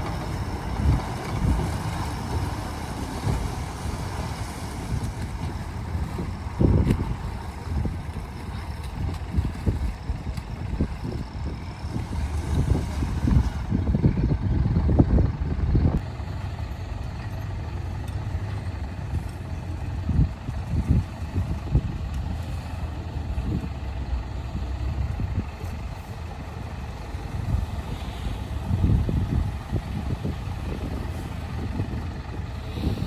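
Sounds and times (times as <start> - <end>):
heavy diesel machinery rumbling: 0.0 - 33.0.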